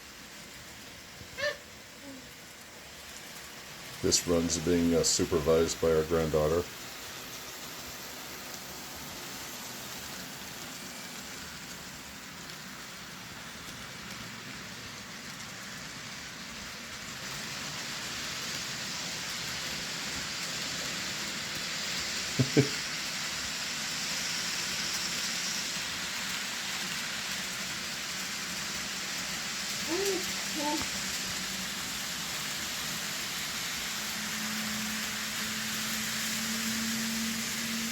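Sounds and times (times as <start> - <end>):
model train motors whirring: 0.0 - 37.9.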